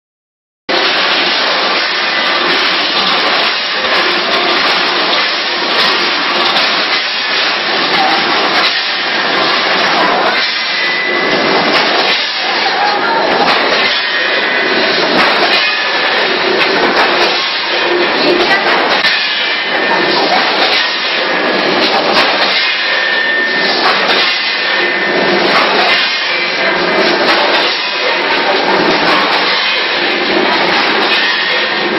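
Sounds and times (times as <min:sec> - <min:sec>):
bagging machine running: 0:00.7 - 0:31.9.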